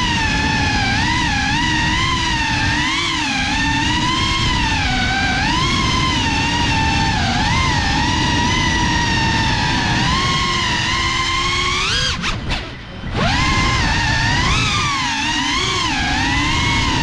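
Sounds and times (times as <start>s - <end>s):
drone motors whining: 0.0s - 17.0s
propellers rushing: 0.0s - 17.0s.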